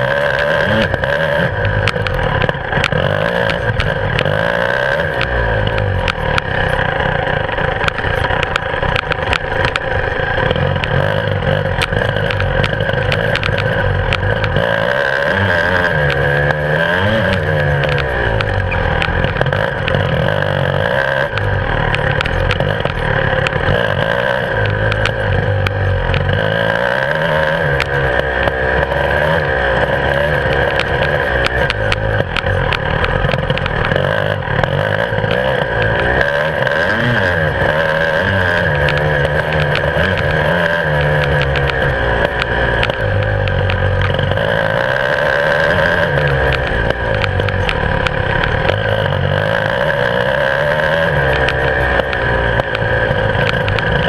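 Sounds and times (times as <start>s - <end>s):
knocks and rattles: 0.0s - 54.0s
two-stroke motorcycle engine revving: 0.0s - 54.0s.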